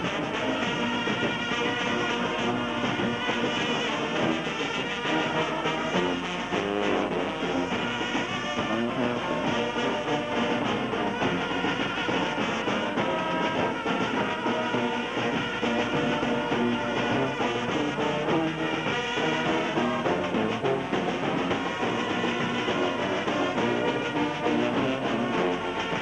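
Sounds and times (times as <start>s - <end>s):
brass instruments playing music: 0.0s - 26.0s.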